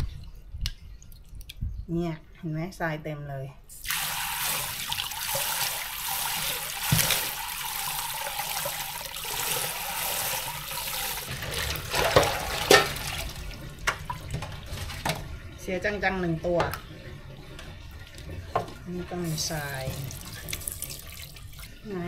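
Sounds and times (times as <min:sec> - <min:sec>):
tap water running into sink: 0:03.8 - 0:21.9.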